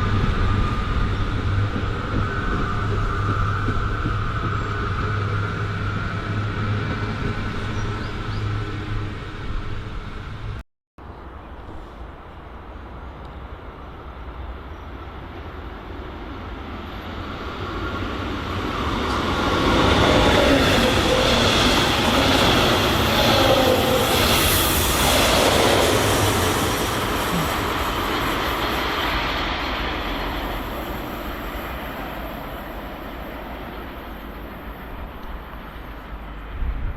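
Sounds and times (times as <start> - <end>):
train rail and wheel noise: 0.0 - 36.9.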